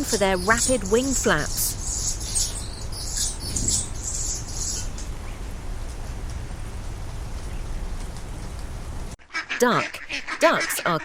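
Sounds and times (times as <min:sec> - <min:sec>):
hummingbird chirping: 0:00.0 - 0:09.0
low steady hum: 0:00.0 - 0:09.2.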